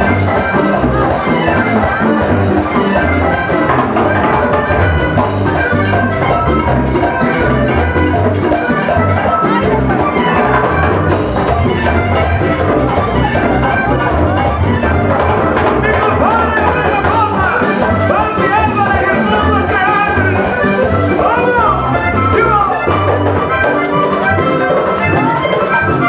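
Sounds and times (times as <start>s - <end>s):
accordion melody: 0.0s - 26.0s
drum kit: 0.0s - 26.0s
electric bass: 0.0s - 26.0s.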